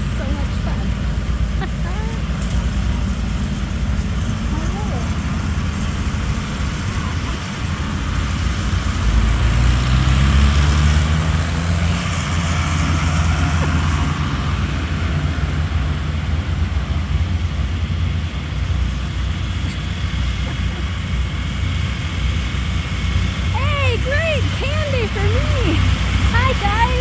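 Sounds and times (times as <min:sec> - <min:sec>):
tractor engines driving past: 0:00.0 - 0:27.0.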